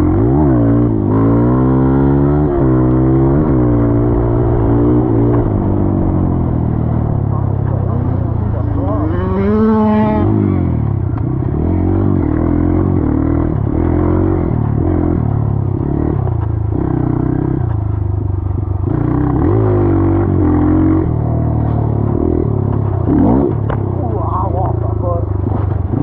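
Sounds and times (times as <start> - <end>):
dirt bike engine revving: 0.0 - 17.8, 18.6 - 26.0.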